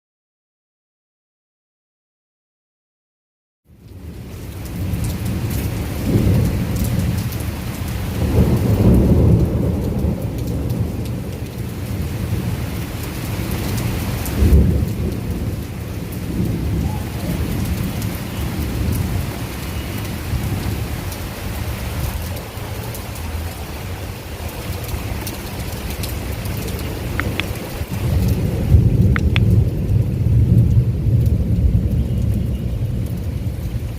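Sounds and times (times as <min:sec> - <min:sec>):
heavy rain downpour: 0:03.7 - 0:33.9
thunder rumbling: 0:04.0 - 0:33.9.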